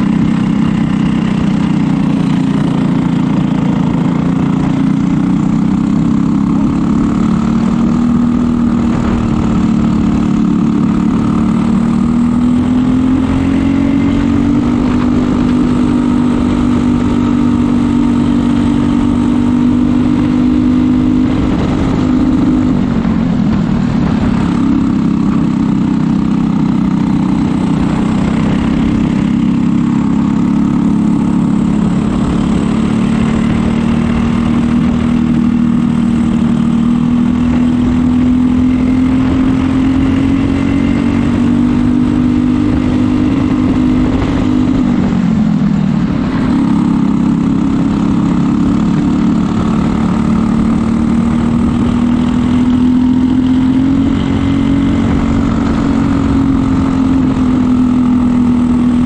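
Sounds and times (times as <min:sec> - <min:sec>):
kart engine racing: 0:00.0 - 0:59.0.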